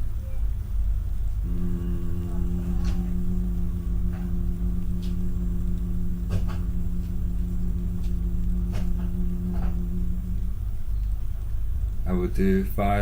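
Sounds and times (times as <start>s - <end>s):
low rumble: 1.2s - 12.2s
man humming low note: 1.4s - 13.0s.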